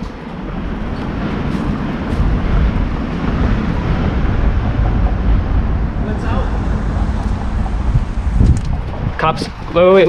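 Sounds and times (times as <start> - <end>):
wind rushing over microphone: 0.0 - 10.0.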